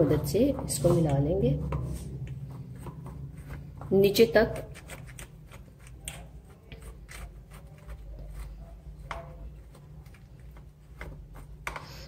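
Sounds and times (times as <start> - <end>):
fork scraping plastic mould: 1.8 - 12.0.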